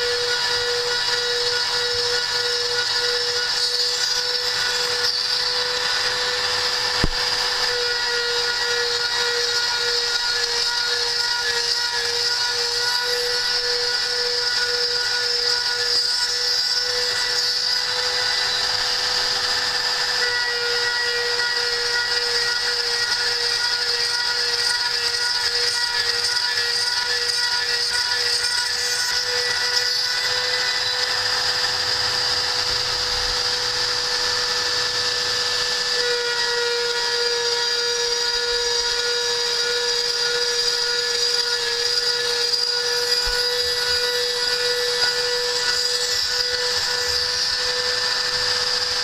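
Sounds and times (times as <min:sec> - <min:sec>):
router spindle milling metal: 0:00.0 - 0:49.0.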